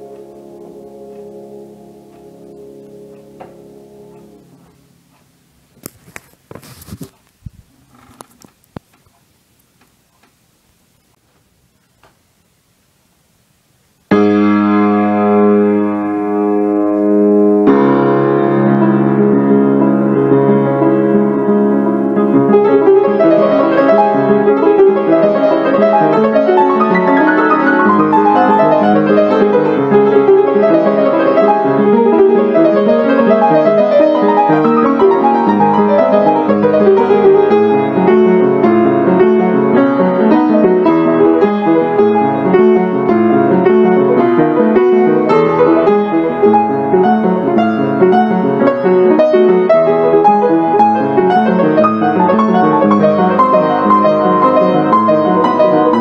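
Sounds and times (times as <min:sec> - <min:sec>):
piano music: 0:00.0 - 0:05.0, 0:14.1 - 0:56.0.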